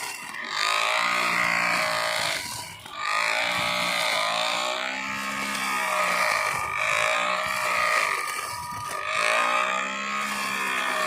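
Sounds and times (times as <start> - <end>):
electric grass cutter whining: 0.0 - 11.0.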